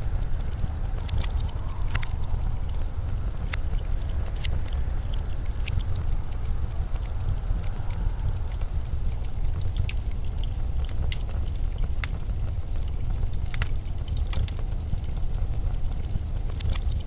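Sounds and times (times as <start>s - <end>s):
deep winter wind rumble: 0.0s - 17.0s
sharp crackles and ticks: 0.0s - 17.0s.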